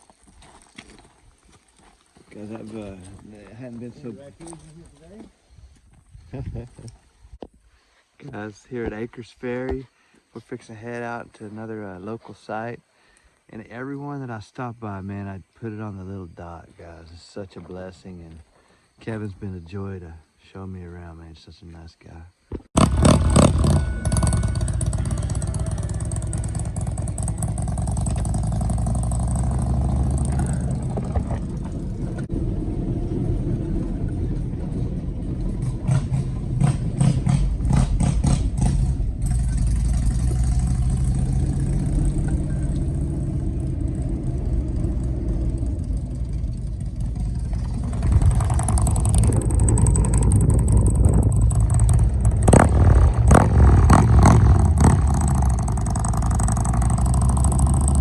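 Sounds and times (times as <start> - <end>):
engine and road rumble: 0.0 - 20.4, 22.4 - 58.0.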